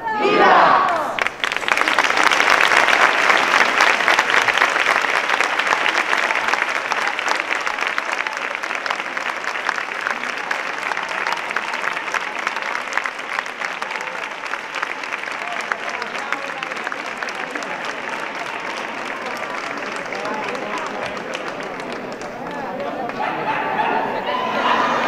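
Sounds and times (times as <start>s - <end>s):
crowd applauding: 0.0s - 25.0s.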